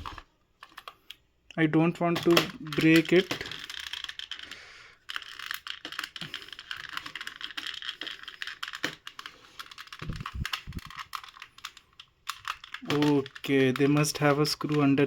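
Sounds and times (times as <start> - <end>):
plastic parts clicking and scraping: 0.0 - 1.3, 2.0 - 15.0.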